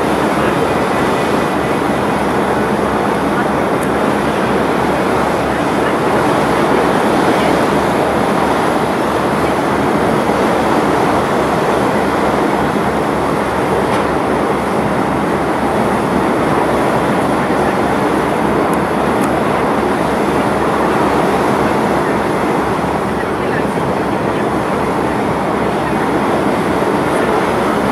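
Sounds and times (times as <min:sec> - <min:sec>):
boat engine droning: 0:00.0 - 0:27.9
rushing water: 0:00.0 - 0:27.9.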